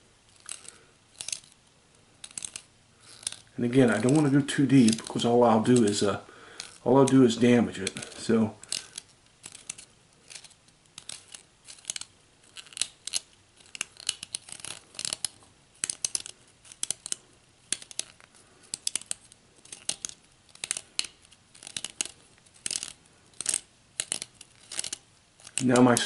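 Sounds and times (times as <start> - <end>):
wire scraping acrylic: 0.3 - 1.6, 2.2 - 26.0.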